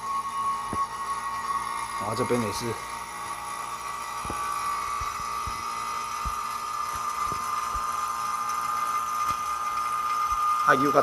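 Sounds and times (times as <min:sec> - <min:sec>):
vacuum pump whining: 0:00.0 - 0:11.0.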